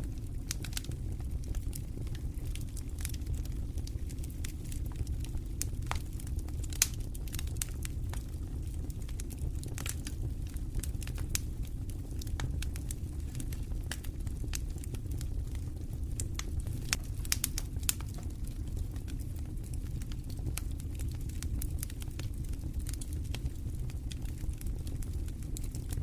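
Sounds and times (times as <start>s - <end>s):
low rumble of wind and fire: 0.0s - 26.0s
wood crackling and popping: 0.0s - 26.0s.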